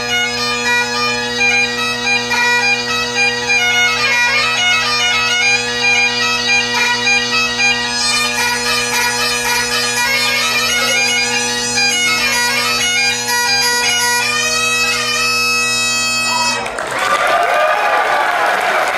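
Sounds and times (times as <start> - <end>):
bagpipe chanter melody: 0.0 - 16.8
bagpipe drones: 0.0 - 16.8.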